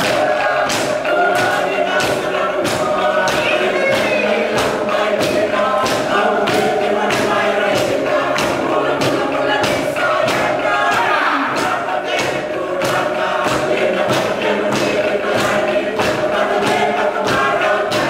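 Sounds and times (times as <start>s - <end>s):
bamboo tubes stamping beat: 0.0s - 18.0s
choir singing in harmony: 0.0s - 18.0s.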